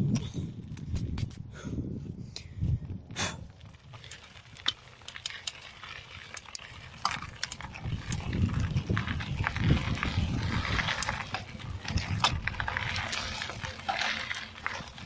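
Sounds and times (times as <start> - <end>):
mountain bike rattling and clicking: 0.0 - 15.0.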